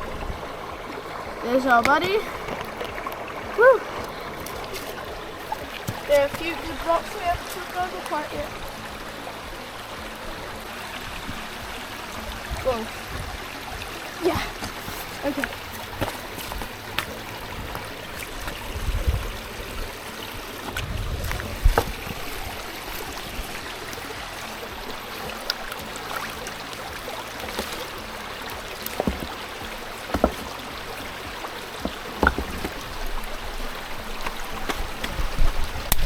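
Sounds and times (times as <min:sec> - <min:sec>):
stream water over rocks: 0:00.0 - 0:36.0.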